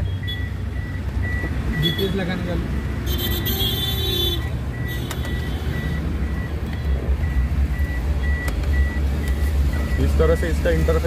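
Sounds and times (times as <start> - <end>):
vehicle warning beeps: 0.0 - 3.4, 4.3 - 11.0.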